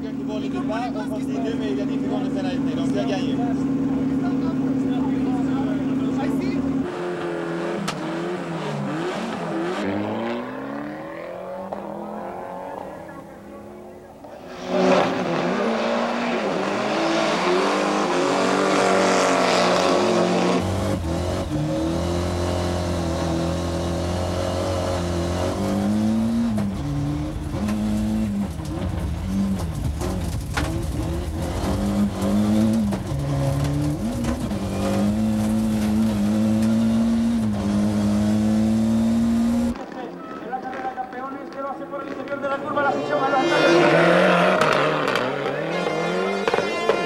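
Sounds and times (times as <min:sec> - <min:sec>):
rally car engine at full throttle: 0:00.0 - 0:40.0, 0:41.5 - 0:47.0.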